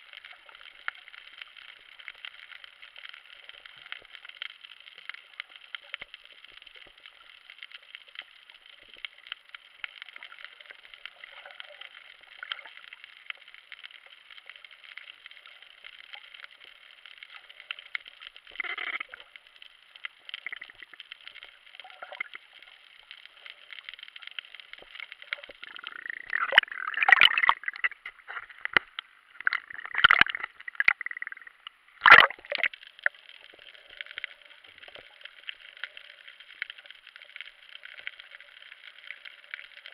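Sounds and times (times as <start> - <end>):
muffled underwater hiss: 0.0 - 39.9
small underwater clicks: 0.0 - 39.9.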